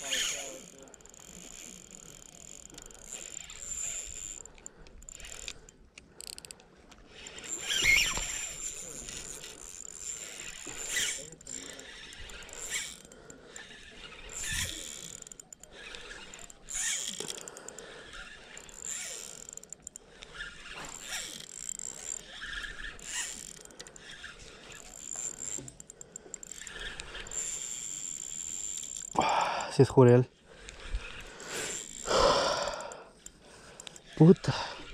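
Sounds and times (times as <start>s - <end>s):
fishing reel clicking: 0.0s - 34.9s.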